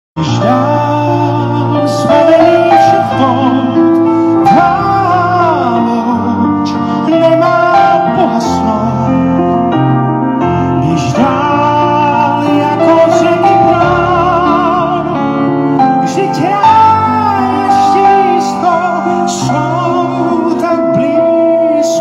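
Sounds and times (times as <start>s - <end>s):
instrumental backing music: 0.2s - 22.0s
man singing into microphone: 0.2s - 22.0s.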